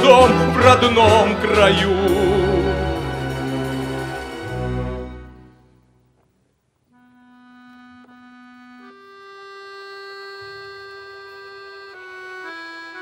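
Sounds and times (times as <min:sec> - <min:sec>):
accordion playing long notes: 0:00.0 - 0:05.7, 0:06.9 - 0:13.0.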